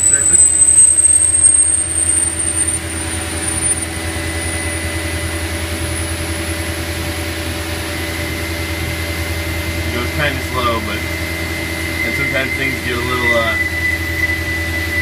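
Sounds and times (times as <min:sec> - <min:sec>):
lathe hum with high whine: 0:00.0 - 0:15.0.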